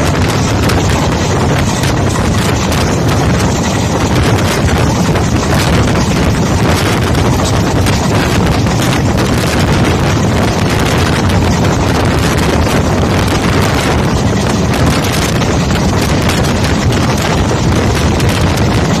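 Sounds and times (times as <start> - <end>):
train running rumble: 0.0 - 19.0
wind buffeting microphone: 0.0 - 19.0.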